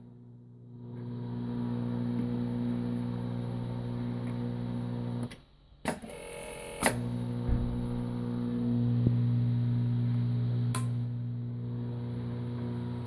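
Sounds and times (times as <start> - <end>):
machine electric hum: 0.0 - 5.3, 6.1 - 13.0.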